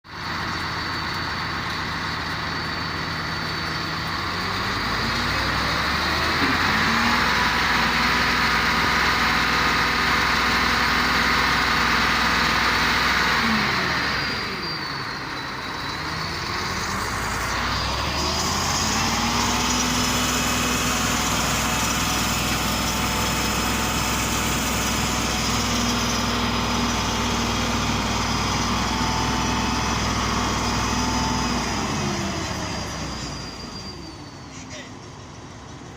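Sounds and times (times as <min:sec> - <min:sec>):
diesel engine revving: 0:00.1 - 0:35.9.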